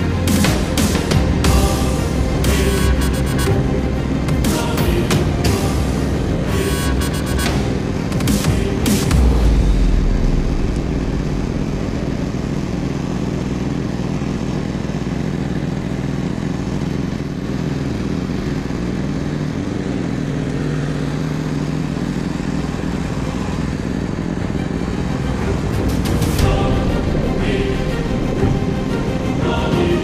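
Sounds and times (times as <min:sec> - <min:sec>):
snowblower running: 0:00.0 - 0:30.0.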